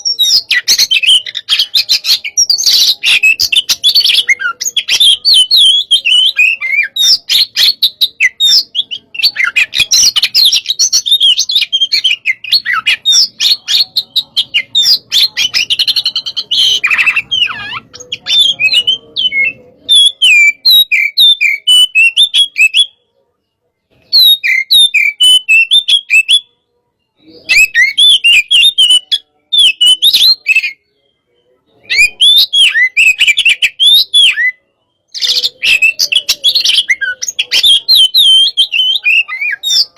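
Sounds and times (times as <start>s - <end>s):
bird singing whistles and chirps: 0.0s - 23.0s, 24.0s - 39.9s.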